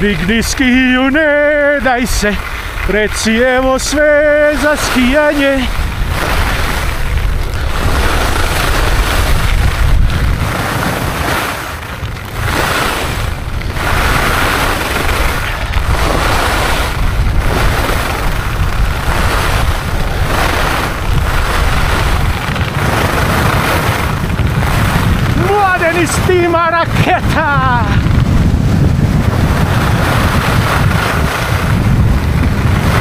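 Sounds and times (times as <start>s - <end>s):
skis carving on snow: 0.0s - 33.0s
wind buffeting microphone: 0.0s - 33.0s.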